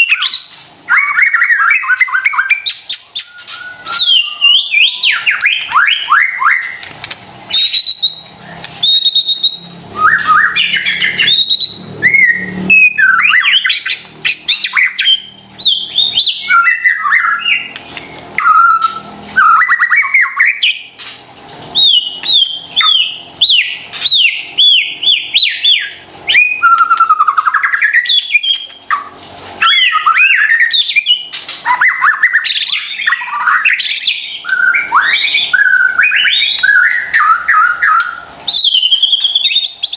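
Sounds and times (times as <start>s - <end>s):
songbird whistling and clicking: 0.0s - 21.2s, 21.8s - 39.9s.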